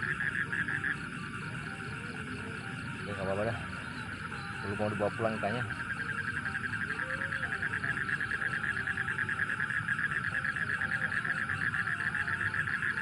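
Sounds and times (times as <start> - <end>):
frogs trilling: 0.0 - 13.0.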